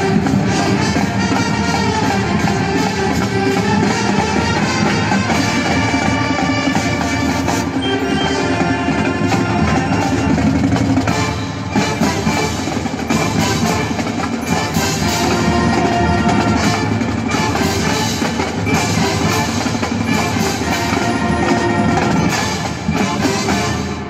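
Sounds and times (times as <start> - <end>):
loud music with drums: 0.0 - 24.0.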